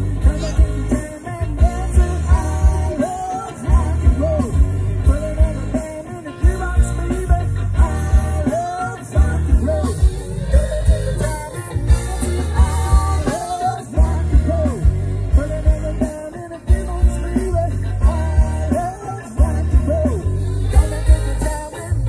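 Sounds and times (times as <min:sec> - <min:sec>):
electric guitars: 0:00.0 - 0:22.0
person singing: 0:00.0 - 0:22.0.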